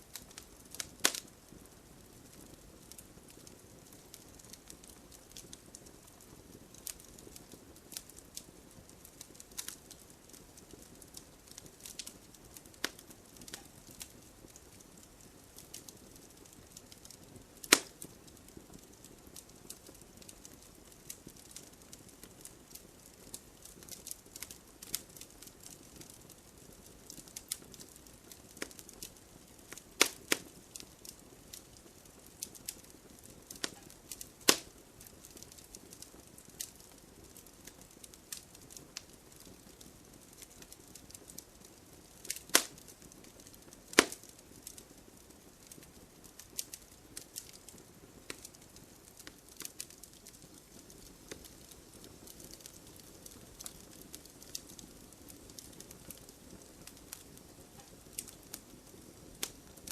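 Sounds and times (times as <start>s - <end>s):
logs crackling and popping: 0.0s - 59.9s
soft steady hiss: 0.0s - 59.9s.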